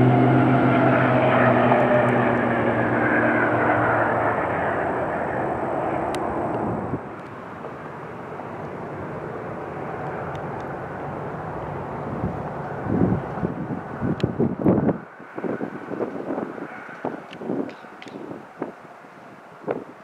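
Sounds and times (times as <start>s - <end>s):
airliner rumble on approach: 0.0s - 20.0s
jet engines at high power: 0.0s - 20.0s.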